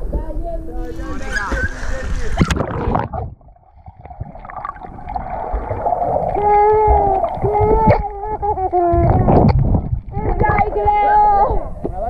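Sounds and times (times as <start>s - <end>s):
water churning underwater: 0.7s - 12.0s.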